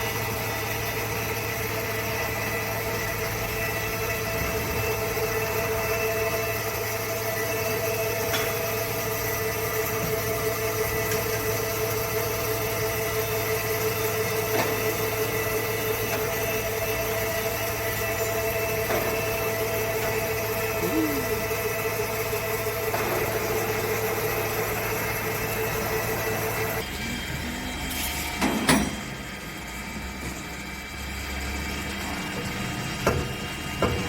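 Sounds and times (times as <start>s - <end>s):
machine tool humming and whining: 0.0s - 34.0s.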